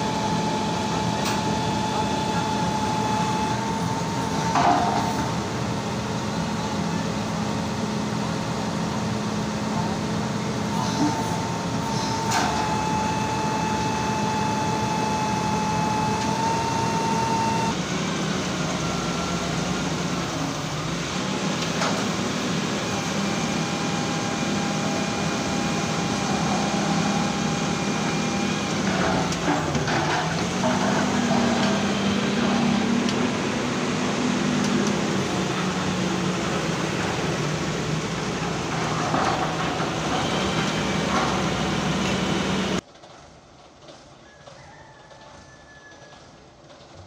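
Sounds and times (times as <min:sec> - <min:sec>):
drilling rig engine hum: 0:00.0 - 0:42.8
hydraulic whine: 0:00.0 - 0:42.8.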